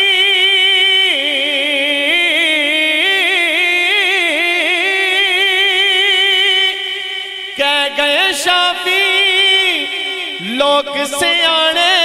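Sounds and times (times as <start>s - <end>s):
man singing devotional song: 0.0s - 12.0s.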